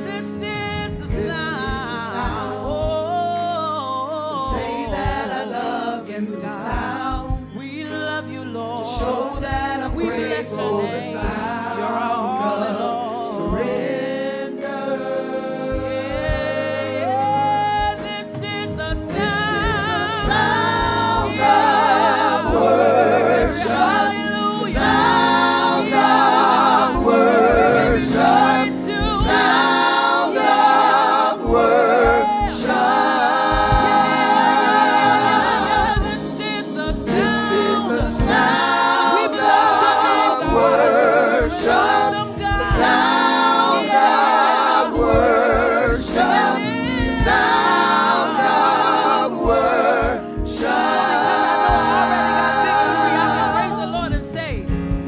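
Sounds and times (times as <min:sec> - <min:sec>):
gospel vocal group singing: 0:00.0 - 0:55.0.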